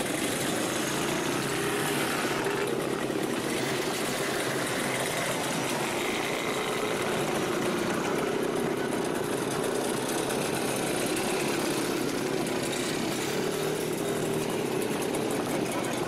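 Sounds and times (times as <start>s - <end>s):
two-stroke motorcycles riding past: 0.0s - 16.0s.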